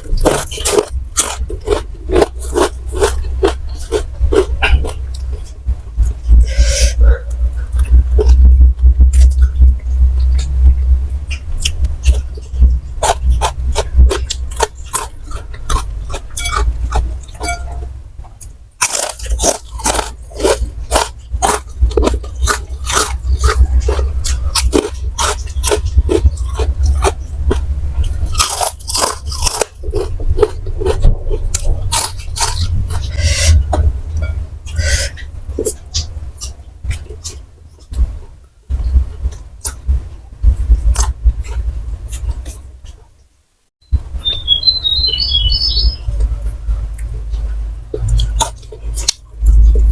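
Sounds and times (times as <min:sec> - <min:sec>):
low rumble: 0:00.0 - 0:42.8
crunchy chewing of snacks: 0:00.0 - 0:43.1, 0:46.0 - 0:49.9.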